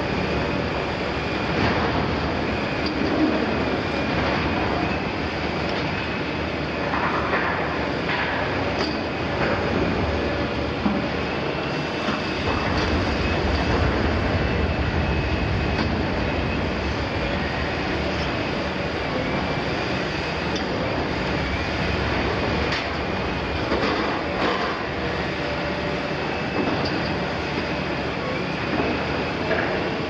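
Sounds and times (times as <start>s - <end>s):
excavator engine drone: 0.0s - 30.0s.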